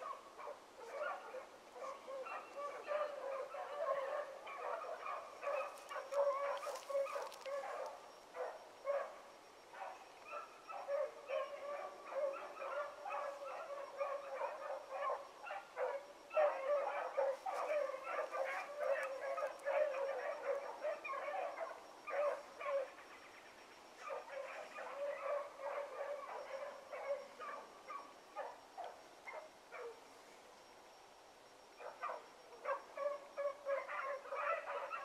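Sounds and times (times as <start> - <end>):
hounds baying: 0.0 - 23.3, 23.9 - 30.1, 31.8 - 35.0.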